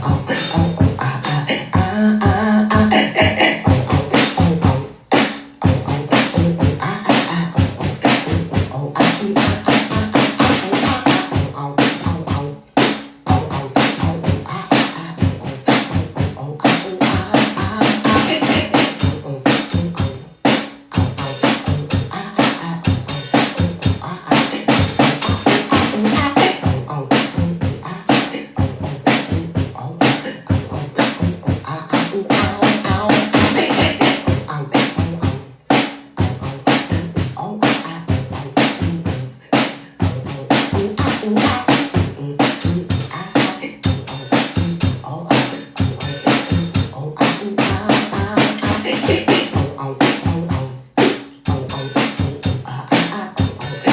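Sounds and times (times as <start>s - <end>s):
fast drum beat: 0.0s - 53.9s.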